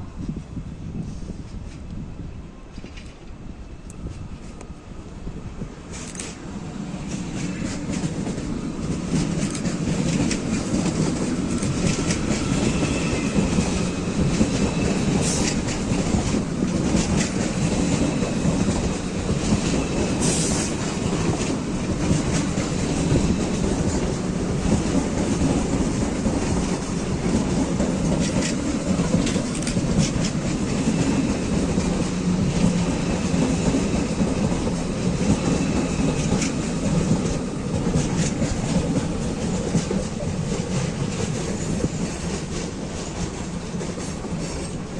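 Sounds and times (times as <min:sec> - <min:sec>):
wheels clacking over rail joints: 0:05.9 - 0:44.9.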